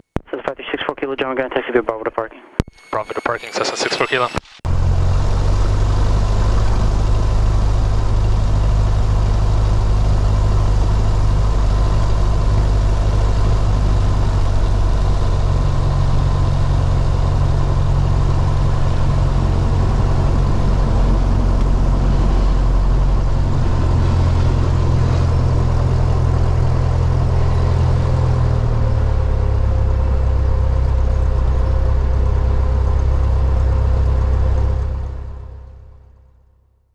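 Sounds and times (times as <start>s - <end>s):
aircraft engine droning: 4.7s - 36.1s.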